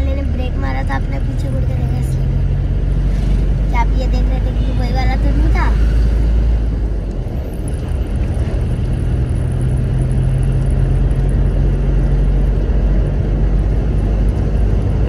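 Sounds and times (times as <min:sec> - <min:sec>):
car engine hum and road noise: 0:00.0 - 0:15.0.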